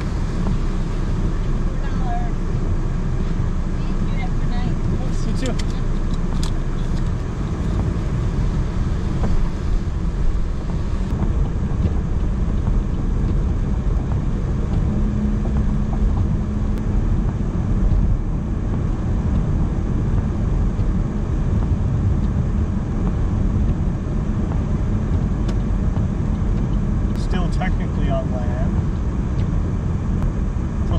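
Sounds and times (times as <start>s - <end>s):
car engine hum: 0.0s - 30.9s
tyre noise on wet road: 0.0s - 30.9s.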